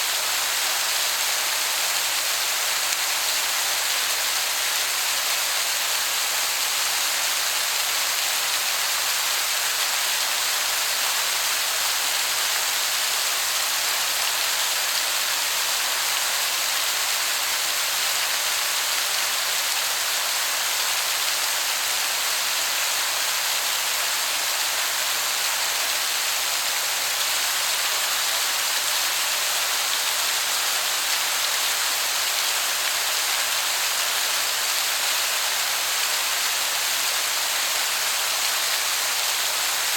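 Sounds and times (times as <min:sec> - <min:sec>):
distant waterfall rushing: 0:00.0 - 0:39.9.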